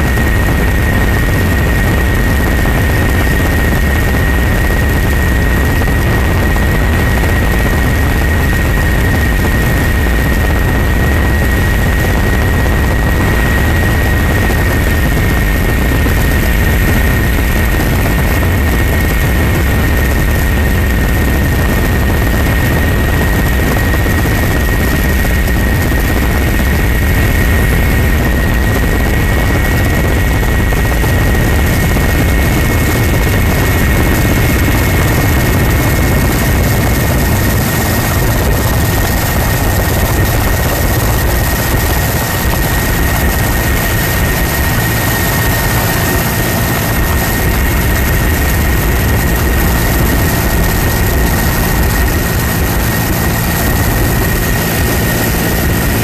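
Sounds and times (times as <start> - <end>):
helicopter engine and rotor drone: 0.0 - 56.0
high whine: 0.0 - 56.0.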